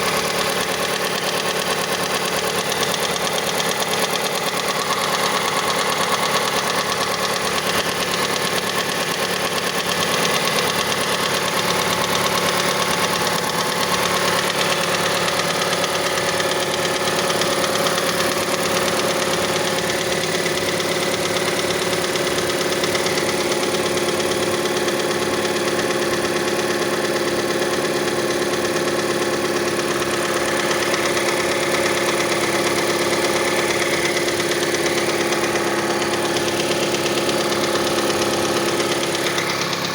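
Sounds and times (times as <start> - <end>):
car engine idling: 0.0 - 39.9
rapid engine knocking: 0.0 - 39.9.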